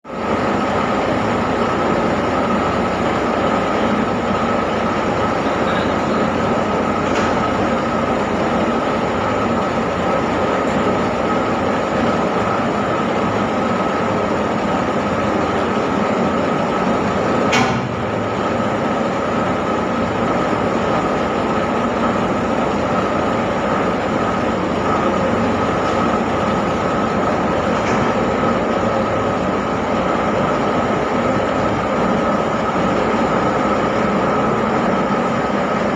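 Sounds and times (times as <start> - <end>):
steady whine: 0.0 - 35.9.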